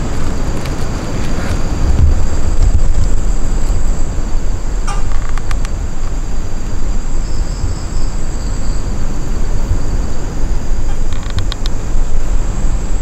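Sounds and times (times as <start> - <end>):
night insects droning: 0.0 - 13.0
wind rumbling on microphone: 0.0 - 13.0.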